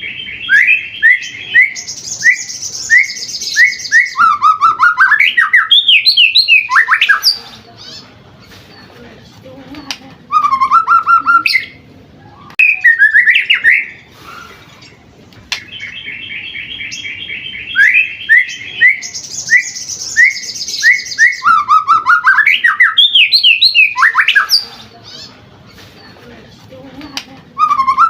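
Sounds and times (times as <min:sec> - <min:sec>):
bird singing varied song: 0:00.0 - 0:28.0.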